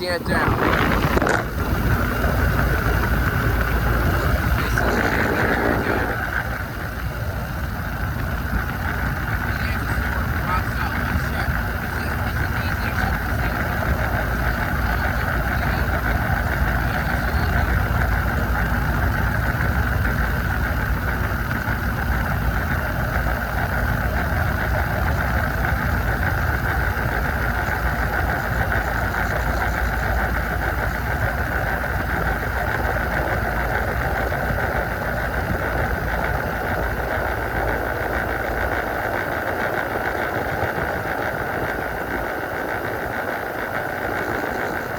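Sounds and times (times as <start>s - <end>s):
compressor low hum: 0.0s - 44.9s
condenser fan whirring: 0.0s - 44.9s.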